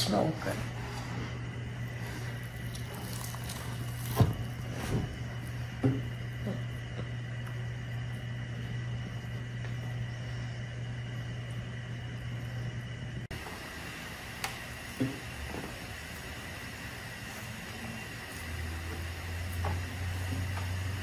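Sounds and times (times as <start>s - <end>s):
electrical hum with high whine: 0.0s - 21.0s.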